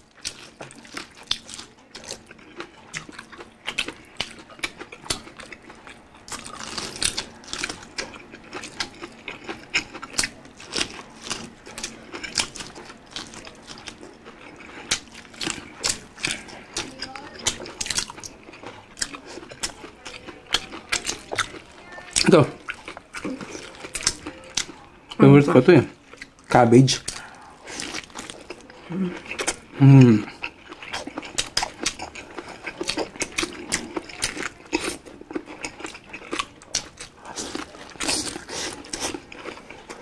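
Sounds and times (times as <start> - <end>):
wet chewing and lip-smacking: 0.0 - 25.3, 25.9 - 40.0.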